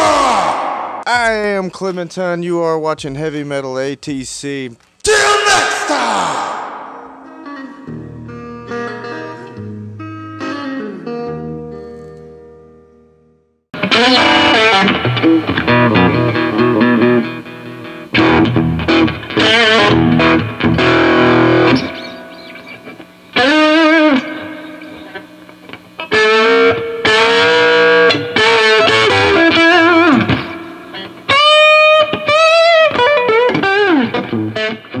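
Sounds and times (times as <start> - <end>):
distorted electric guitar: 5.7 - 12.8, 13.8 - 35.0.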